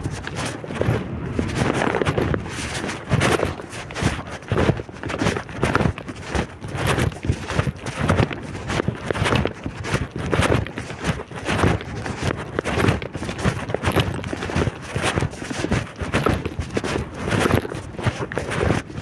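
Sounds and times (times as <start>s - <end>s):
footsteps: 0.0s - 19.0s
wind buffeting microphone: 0.0s - 19.0s.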